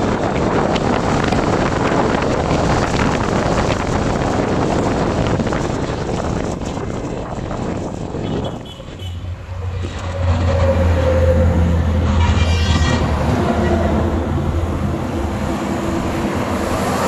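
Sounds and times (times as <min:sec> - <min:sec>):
wind rushing over microphone: 0:00.0 - 0:12.2, 0:12.8 - 0:17.0.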